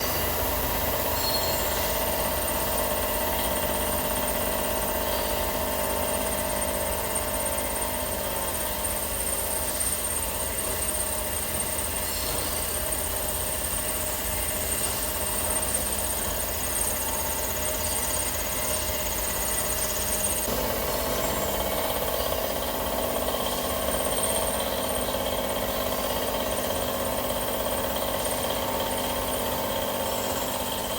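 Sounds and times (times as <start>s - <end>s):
high thin machine whine: 0.0s - 30.9s
milling machine running: 0.0s - 30.9s.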